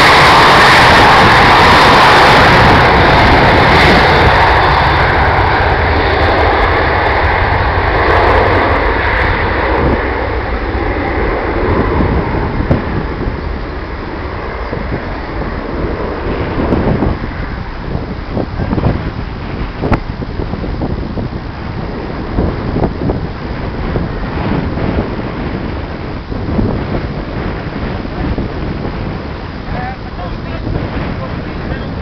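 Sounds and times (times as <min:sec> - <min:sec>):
jet engines at takeoff: 0:00.0 - 0:32.0.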